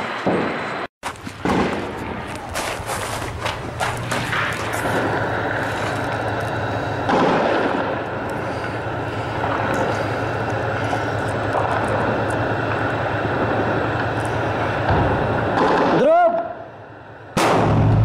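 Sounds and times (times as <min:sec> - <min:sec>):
engine drone: 0:00.0 - 0:18.0
rushing noise: 0:00.0 - 0:18.0.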